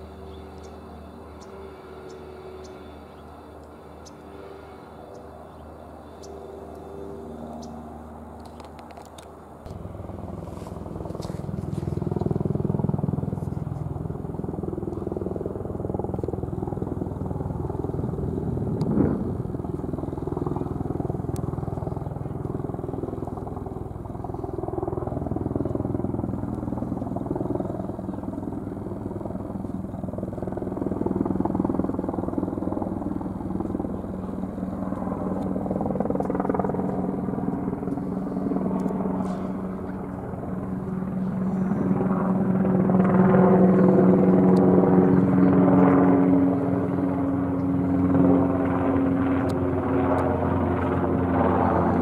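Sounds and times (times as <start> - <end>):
aircraft engine droning: 0.0 - 52.0.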